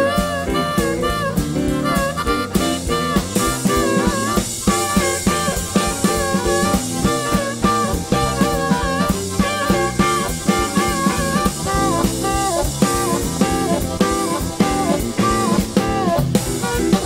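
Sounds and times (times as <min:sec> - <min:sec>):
amplified harmonica: 0:00.0 - 0:17.0
drum kit: 0:00.0 - 0:17.0
electric bass: 0:00.0 - 0:17.0
electric guitar: 0:00.0 - 0:17.0.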